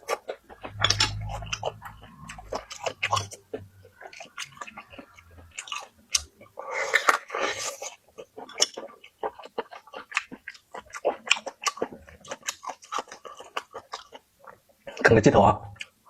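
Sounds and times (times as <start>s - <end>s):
person chewing wetly: 0.0s - 15.1s, 15.8s - 16.0s.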